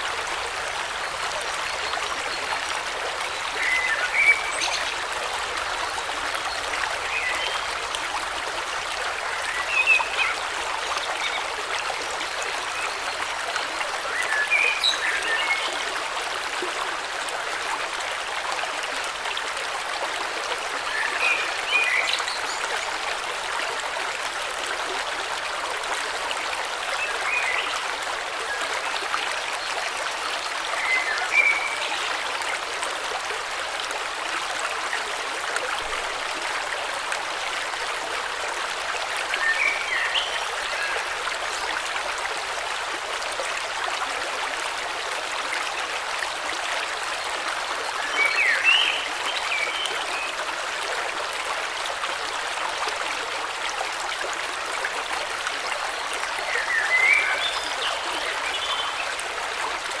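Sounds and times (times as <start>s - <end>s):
river flowing: 0.0s - 60.0s.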